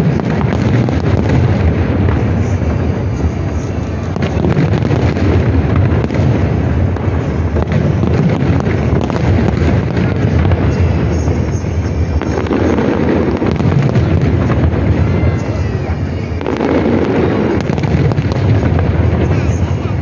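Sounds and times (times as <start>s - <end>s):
firework booms: 0.0s - 20.0s
firework cracks: 0.0s - 20.0s.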